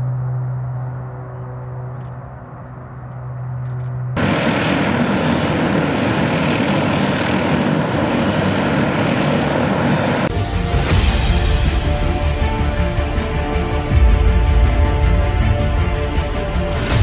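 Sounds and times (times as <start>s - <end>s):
propeller aircraft engine roar: 0.0s - 17.0s.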